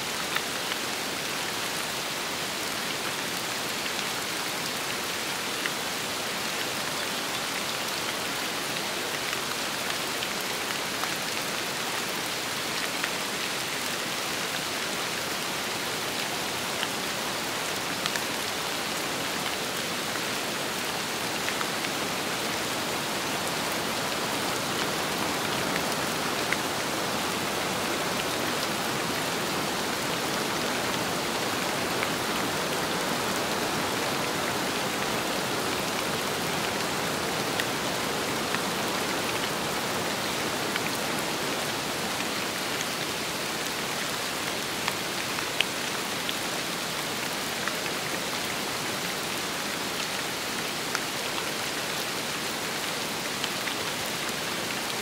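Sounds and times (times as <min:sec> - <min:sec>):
steady rain with wind: 0:00.0 - 0:55.0.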